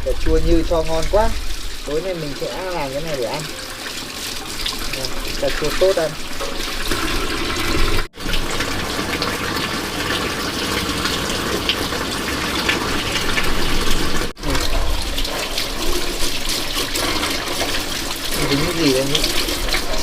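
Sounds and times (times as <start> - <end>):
running water splashing: 0.0 - 20.0.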